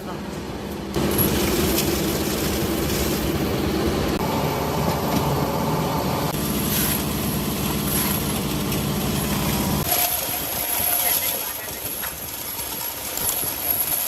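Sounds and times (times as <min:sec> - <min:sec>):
factory machinery hum: 0:00.0 - 0:14.0.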